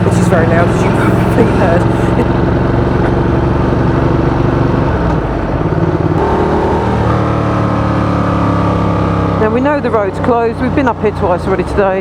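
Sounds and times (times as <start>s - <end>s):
motorcycle engine with loud exhaust: 0.0s - 12.0s.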